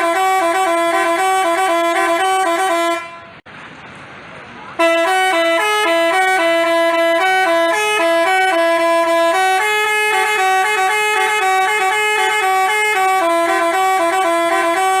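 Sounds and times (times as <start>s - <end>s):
musical bus horn: 0.0s - 3.4s, 4.8s - 15.0s.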